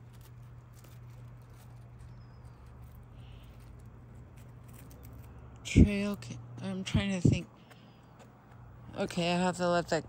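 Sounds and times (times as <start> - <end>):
footsteps on gravel: 0.0 - 9.7
steady low hum: 0.0 - 10.0.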